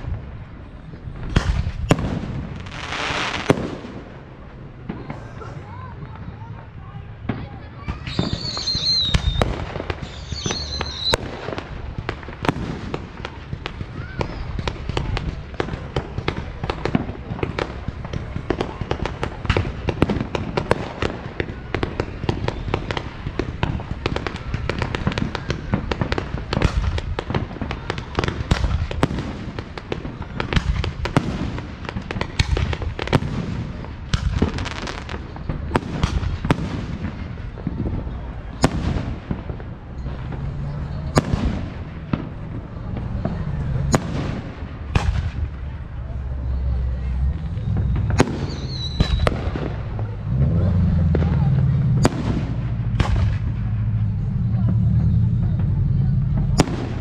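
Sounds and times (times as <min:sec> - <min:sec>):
fireworks bursting bangs: 0:00.0 - 0:57.0.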